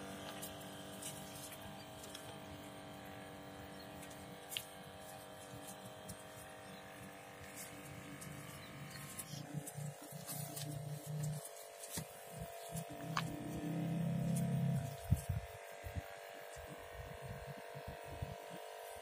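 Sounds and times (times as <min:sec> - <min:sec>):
hobby motor buzzing whine: 0:00.0 - 0:19.0.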